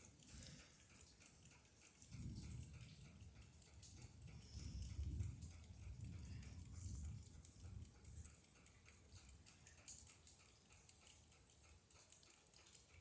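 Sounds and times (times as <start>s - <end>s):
faint high ticking: 0.0s - 13.0s.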